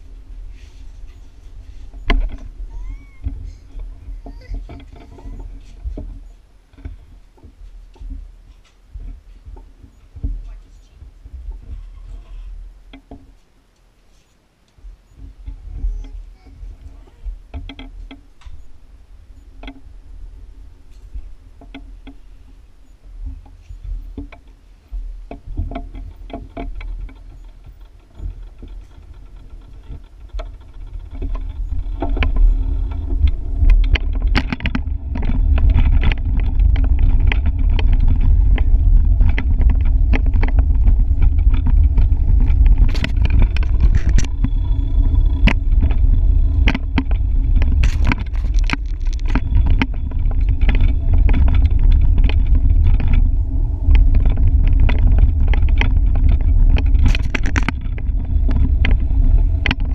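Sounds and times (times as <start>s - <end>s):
bicycle clicks and rattles: 0.0s - 10.5s, 14.7s - 18.8s, 20.9s - 59.9s
wind rumbling on microphone: 0.0s - 13.7s, 14.7s - 59.9s.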